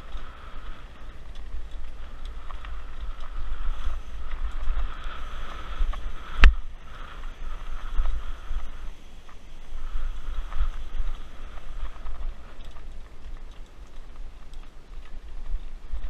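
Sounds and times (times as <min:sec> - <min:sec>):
mountain bike rattling on dirt trail: 0:00.0 - 0:16.0
wind buffeting microphone: 0:00.0 - 0:16.0.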